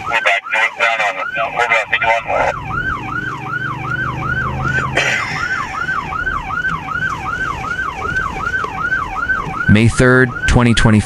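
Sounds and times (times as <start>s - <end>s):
low vehicle hum: 0.0s - 11.0s
police siren yelping: 0.0s - 11.0s.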